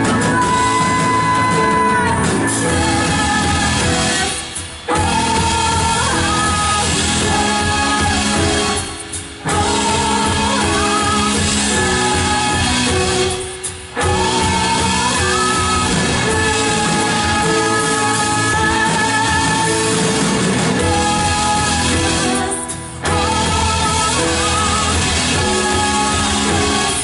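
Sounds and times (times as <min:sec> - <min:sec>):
worship band playing with singing: 0:00.0 - 0:27.0.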